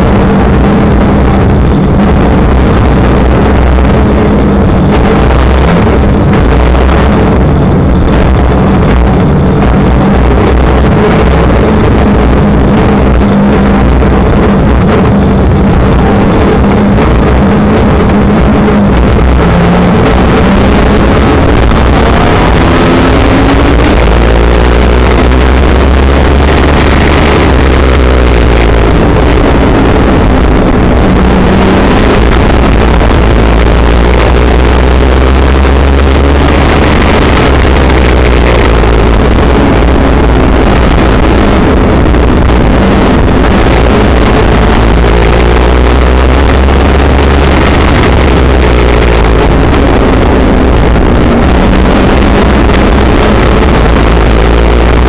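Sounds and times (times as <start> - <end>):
other cars' engines: 0.0 - 55.0
race car engine running hard: 0.0 - 55.0.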